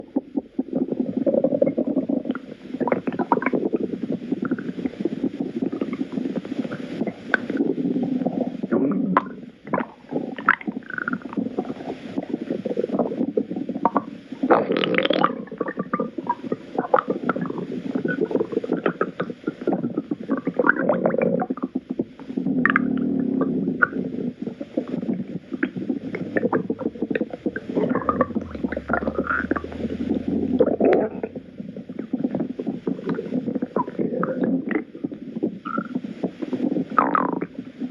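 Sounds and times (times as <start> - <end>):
stomach growling and gurgling: 0.0 - 37.9.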